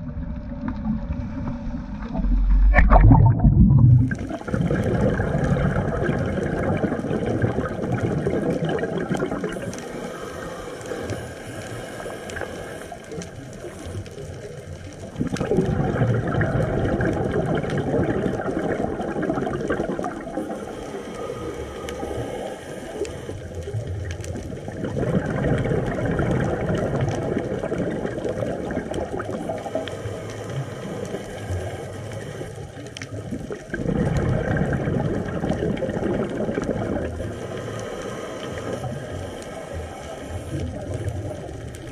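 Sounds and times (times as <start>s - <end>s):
underwater sea rush with bubbles: 0.0s - 41.9s.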